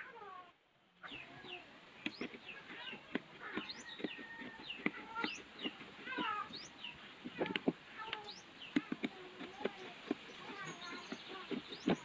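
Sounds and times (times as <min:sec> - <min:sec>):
birds chirping: 0:01.0 - 0:12.0.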